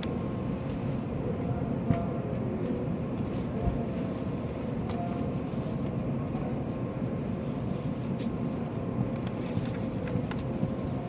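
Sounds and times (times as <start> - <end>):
idling train hum and rumble: 0.0 - 11.0.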